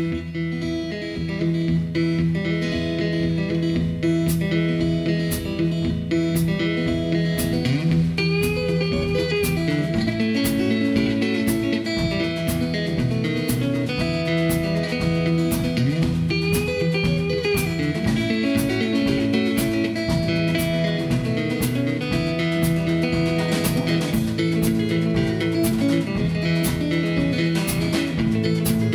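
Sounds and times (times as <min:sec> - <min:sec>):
fingerpicked acoustic guitar: 0:00.0 - 0:28.9
drum kit steady beat: 0:02.8 - 0:28.9.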